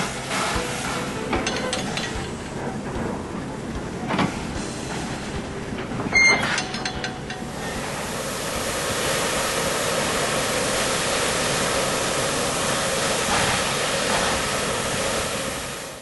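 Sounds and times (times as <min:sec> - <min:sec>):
moving train rushing: 0:00.0 - 0:16.0.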